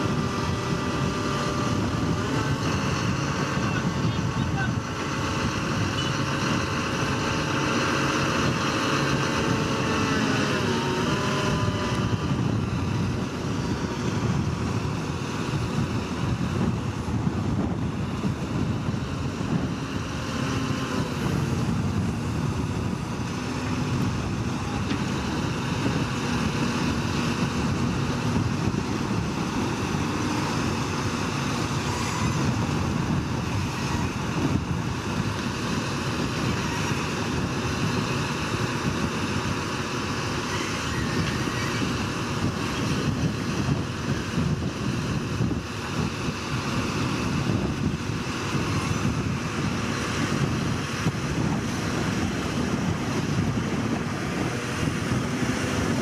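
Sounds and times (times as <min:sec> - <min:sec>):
truck engines running: 0:00.0 - 0:56.0
wind noise on microphone: 0:00.0 - 0:56.0.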